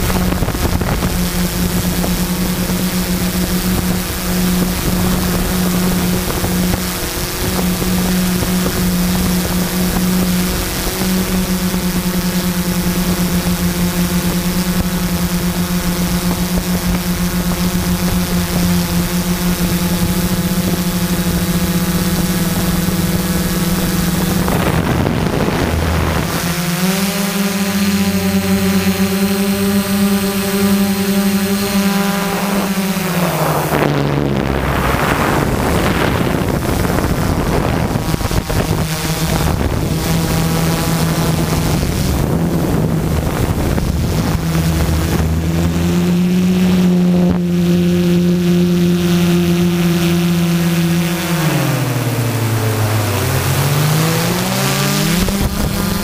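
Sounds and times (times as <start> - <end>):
drone motors buzzing hum: 0.0 - 56.0
wind over microphone: 0.0 - 56.0.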